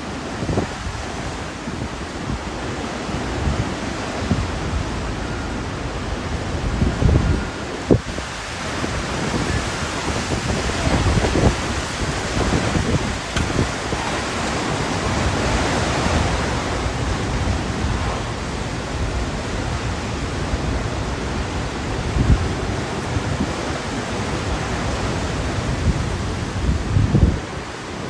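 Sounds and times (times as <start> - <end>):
hurricane wind: 0.0 - 28.0
rain: 0.0 - 28.0.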